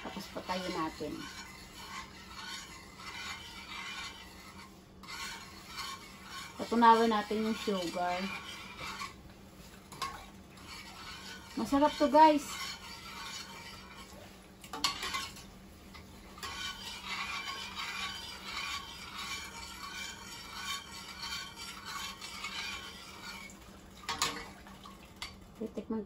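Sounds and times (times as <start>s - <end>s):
metal spoon scraping saucepan: 0.0s - 24.6s.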